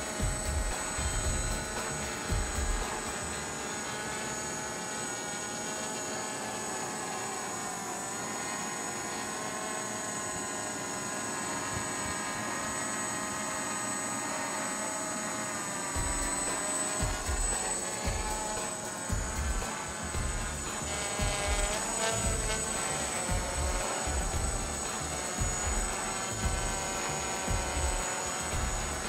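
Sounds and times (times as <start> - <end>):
quadcopter buzzing: 0.0 - 29.0.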